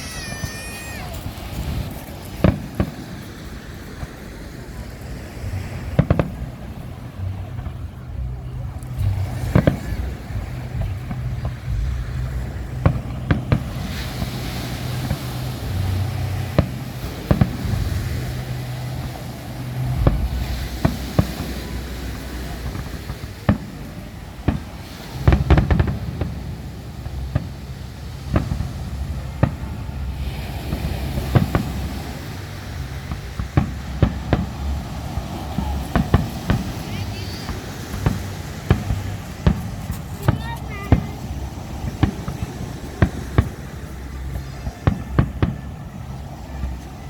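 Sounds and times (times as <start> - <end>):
fireworks bursting with sharp bangs: 0.0 - 47.0
low rumble: 1.2 - 47.0.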